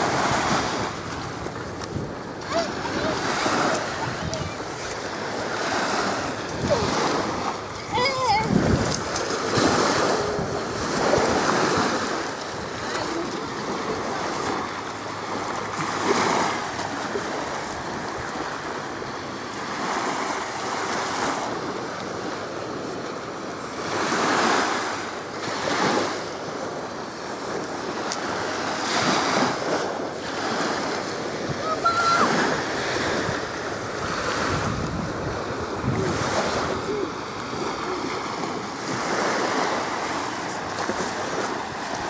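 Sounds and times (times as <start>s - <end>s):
waves washing on sandy shore: 0.0s - 42.0s.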